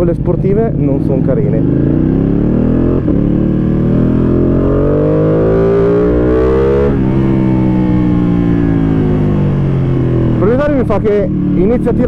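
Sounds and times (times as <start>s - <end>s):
motorcycle engine accelerating hard: 0.0s - 12.0s.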